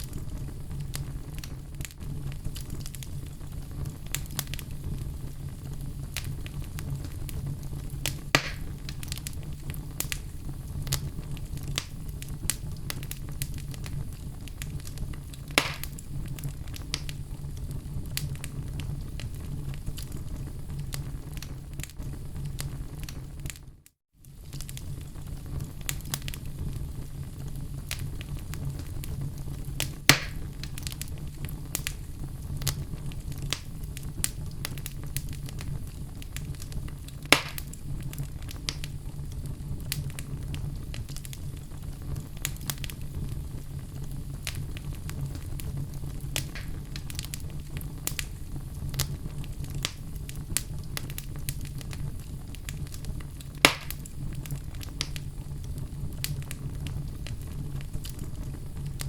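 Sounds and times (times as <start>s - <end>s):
loud fire pops: 0.0s - 59.0s
wood fire crackling: 0.0s - 59.0s.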